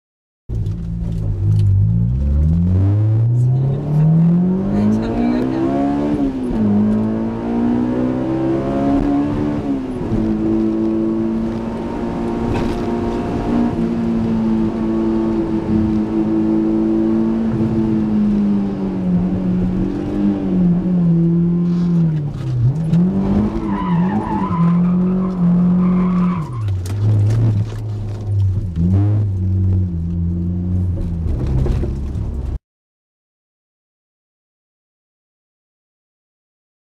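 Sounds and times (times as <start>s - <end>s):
car engine accelerating: 0.5s - 32.6s.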